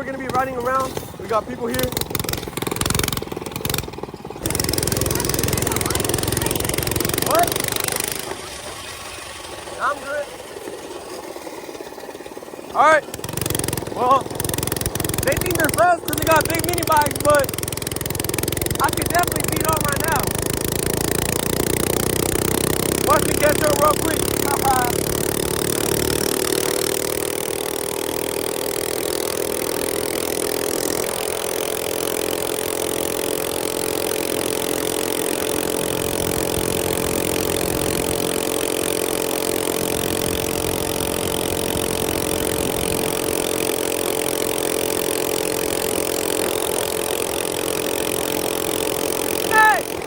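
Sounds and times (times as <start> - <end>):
small engine running high-pitched: 0.0 - 50.0.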